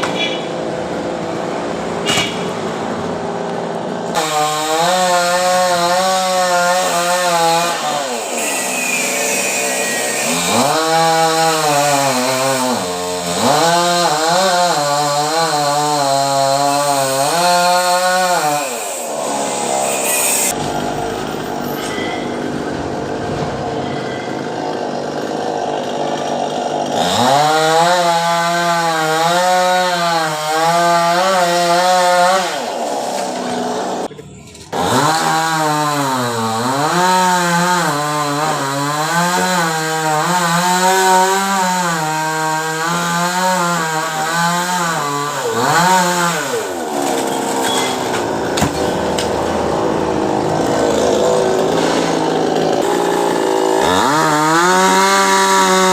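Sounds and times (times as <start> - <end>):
chainsaw cutting wood: 2.0 - 34.1, 34.7 - 55.9.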